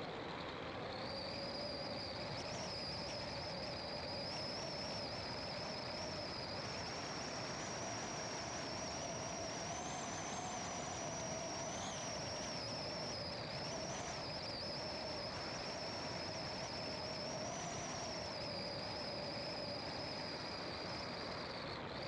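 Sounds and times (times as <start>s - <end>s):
high wavering whine: 0.0s - 22.0s.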